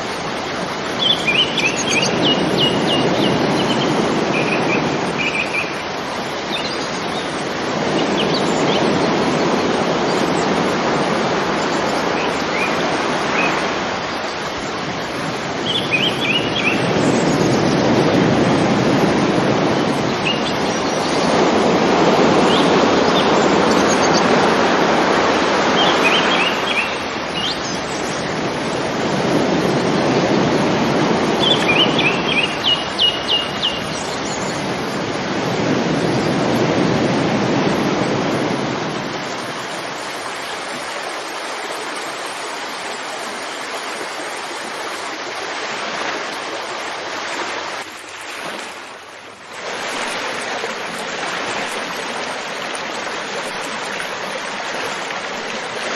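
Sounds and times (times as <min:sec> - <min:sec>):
water flowing over rocks: 0:00.0 - 0:55.9.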